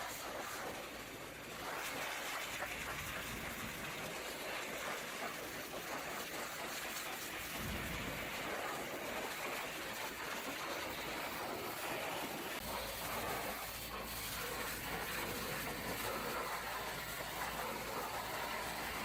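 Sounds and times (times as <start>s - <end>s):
pressure washer spraying: 0.0s - 19.0s.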